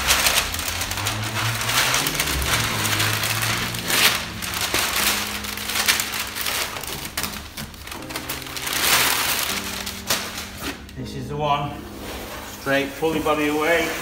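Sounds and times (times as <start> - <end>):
paper rustling and crinkling: 0.0 - 11.1, 11.7 - 14.0.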